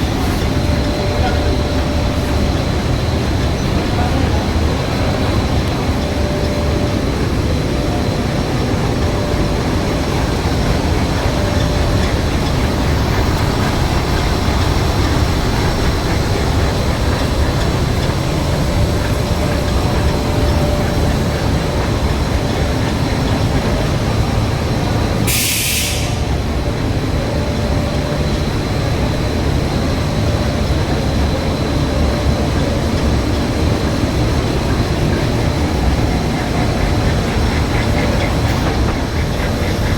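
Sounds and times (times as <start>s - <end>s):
faint machine whine: 0.0s - 39.9s
industrial machine running: 0.0s - 39.9s.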